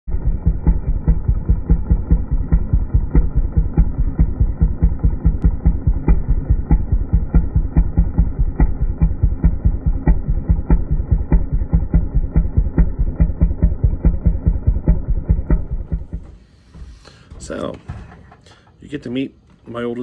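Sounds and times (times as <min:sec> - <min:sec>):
small engine idling: 0:00.1 - 0:16.4.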